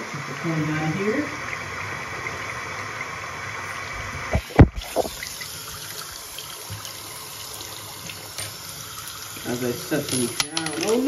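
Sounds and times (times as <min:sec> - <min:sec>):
water running from sink tap: 0:00.0 - 0:11.0.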